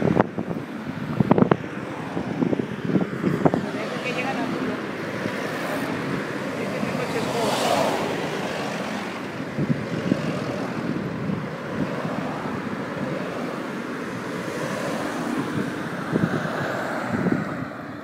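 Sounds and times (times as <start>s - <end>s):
vehicles driving past: 0.0s - 18.0s
wind buffeting microphone: 0.0s - 18.0s.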